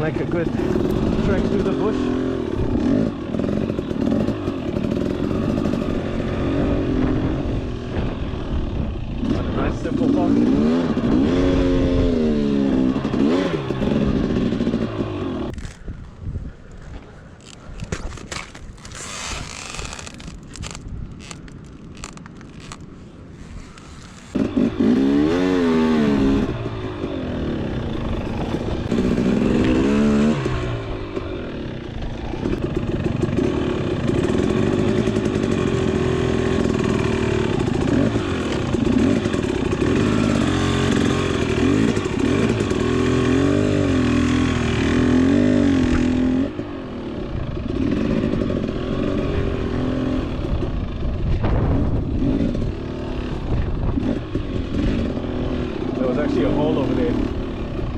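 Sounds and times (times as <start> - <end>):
dirt bike engine revving: 0.0 - 15.9, 23.4 - 57.9.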